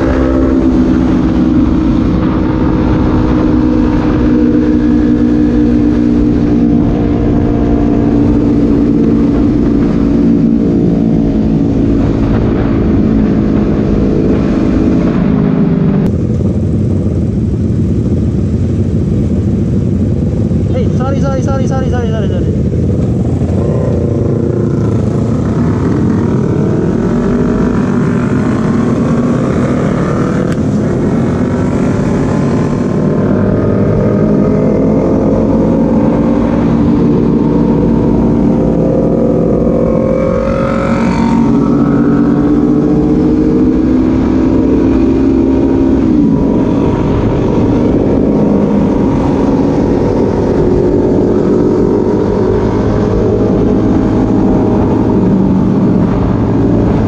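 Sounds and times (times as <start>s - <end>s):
motorcycle engine running: 0.0s - 57.0s
wind rumble: 0.0s - 57.0s.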